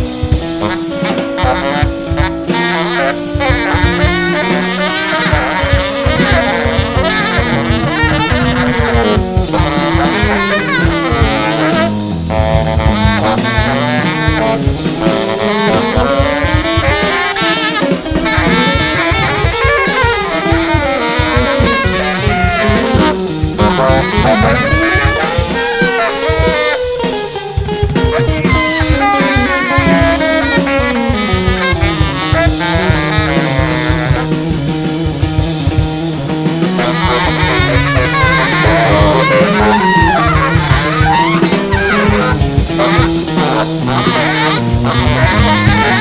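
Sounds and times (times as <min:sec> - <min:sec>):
drum kit: 0:00.0 - 0:46.0
electric guitar: 0:00.0 - 0:46.0
tenor saxophone: 0:00.0 - 0:46.0.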